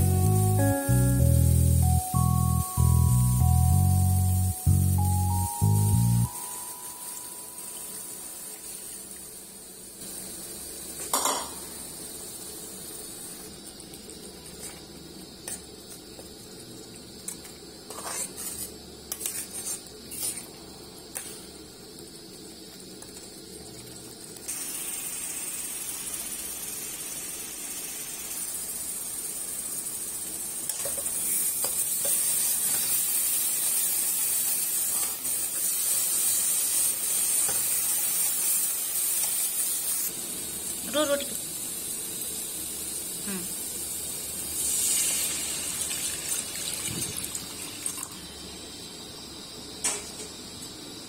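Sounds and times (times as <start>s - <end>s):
gravy sizzling in a pan: 0.0s - 50.5s.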